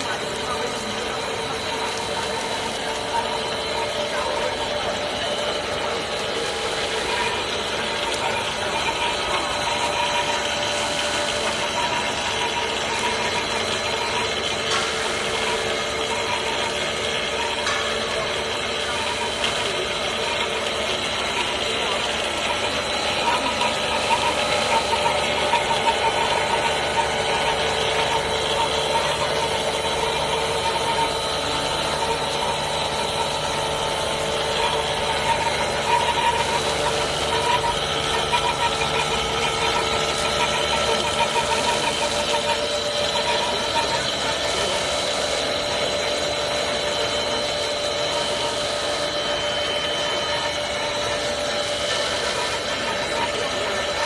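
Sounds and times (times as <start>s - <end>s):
high machine whines: 0.0s - 54.0s
machine hum: 0.0s - 54.0s.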